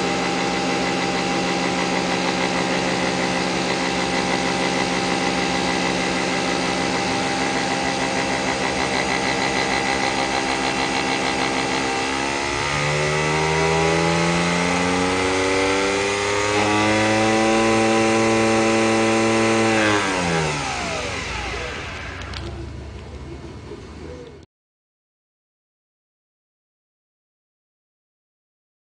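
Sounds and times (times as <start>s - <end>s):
coffee machine motor whirring: 0.0s - 24.4s.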